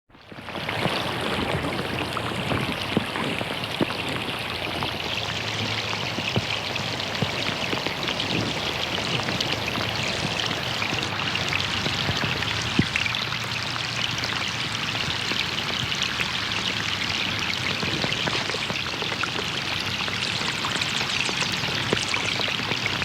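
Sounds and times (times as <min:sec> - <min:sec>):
rain pattering on a pond: 0:00.1 - 0:23.0.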